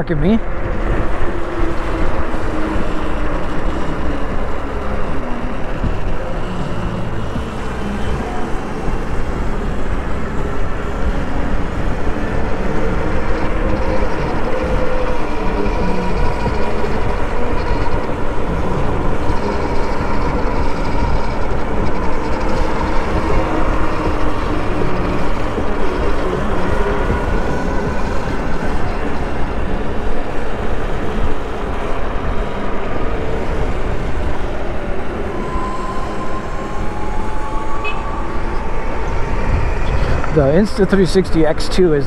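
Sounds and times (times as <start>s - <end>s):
wind on microphone: 0.0s - 41.5s
road noise: 0.0s - 42.0s.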